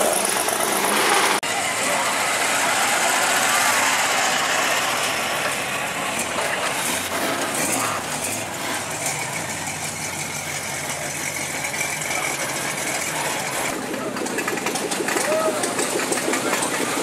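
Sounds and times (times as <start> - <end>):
car engines cruising past: 0.0 - 17.0
street noise: 0.0 - 17.0.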